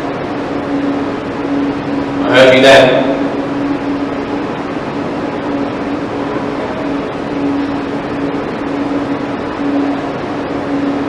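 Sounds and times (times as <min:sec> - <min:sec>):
faint wavering low hum: 0:00.0 - 0:11.0.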